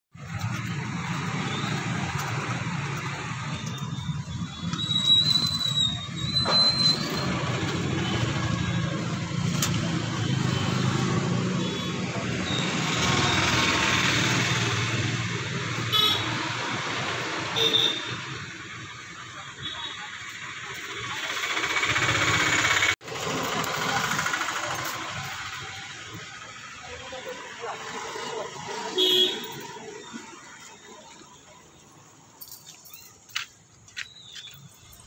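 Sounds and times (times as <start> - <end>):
road traffic: 0.1 - 35.0.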